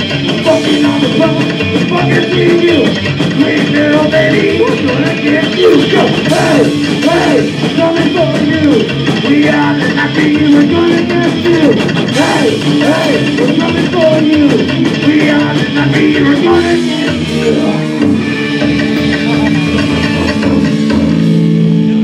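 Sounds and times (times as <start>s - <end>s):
drum kit: 0.0s - 22.0s
electric guitar: 0.0s - 22.0s
upright bass: 0.0s - 22.0s.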